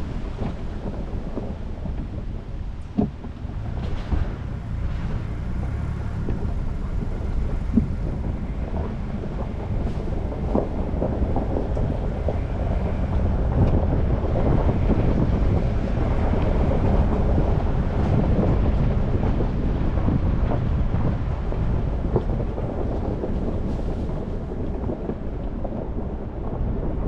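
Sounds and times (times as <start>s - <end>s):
engine and tyre rumble: 0.0s - 27.0s
knocks and rattles: 0.0s - 27.0s
wind buffeting microphone: 0.0s - 27.0s.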